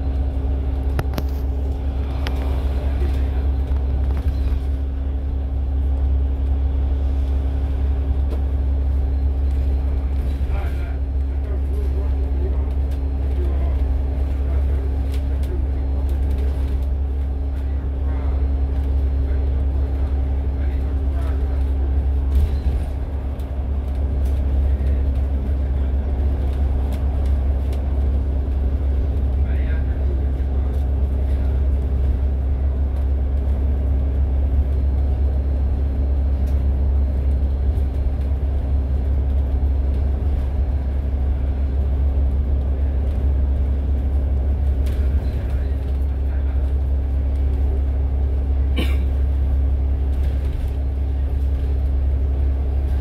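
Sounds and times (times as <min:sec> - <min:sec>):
bus engine drone: 0:00.0 - 0:53.0
road rumble: 0:00.0 - 0:53.0.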